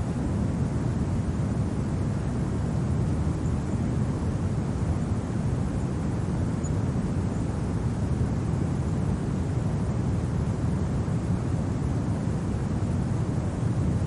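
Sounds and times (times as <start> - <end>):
wind low rumble: 0.0 - 14.0.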